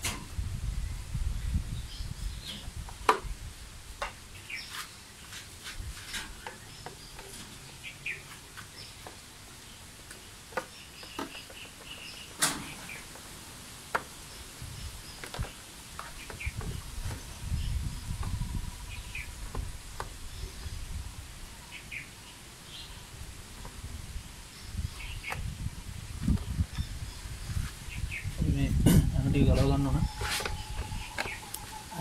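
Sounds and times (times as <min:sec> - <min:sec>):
birds chirping: 0:04.0 - 0:32.0.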